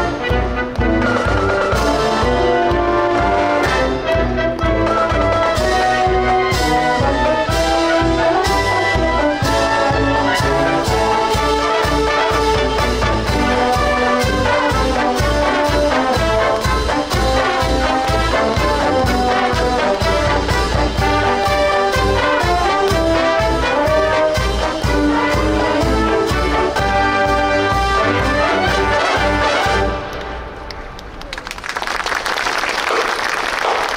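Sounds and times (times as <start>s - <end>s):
marching band playing: 0.0s - 31.2s.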